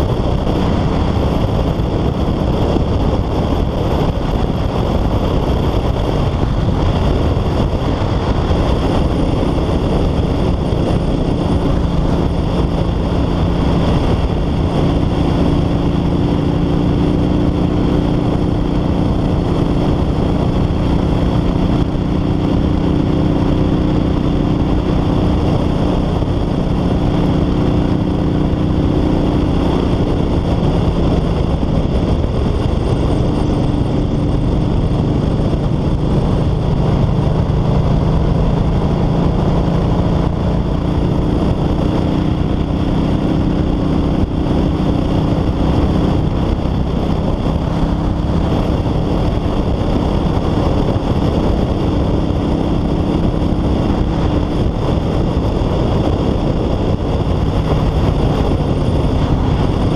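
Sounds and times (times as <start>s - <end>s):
motorcycle engine cruising: 0.0s - 59.9s
wind rushing: 0.0s - 59.9s.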